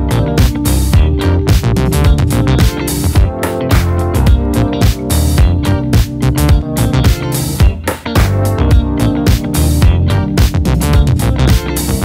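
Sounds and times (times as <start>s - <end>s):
upbeat music with drums and guitar: 0.0s - 12.0s.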